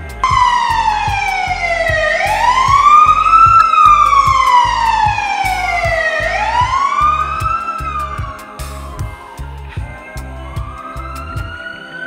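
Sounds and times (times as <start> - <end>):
background music with low beat: 0.0 - 11.8
wailing siren: 0.0 - 12.0.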